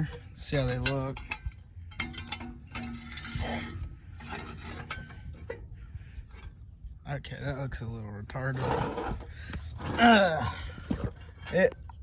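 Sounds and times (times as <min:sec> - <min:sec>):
metal exhaust tips scraping and clinking: 0:00.0 - 0:12.0.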